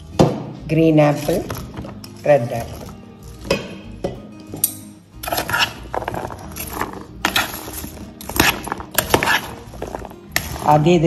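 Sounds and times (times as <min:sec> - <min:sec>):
spoon clinking and scraping bowl: 0:01.2 - 0:10.8.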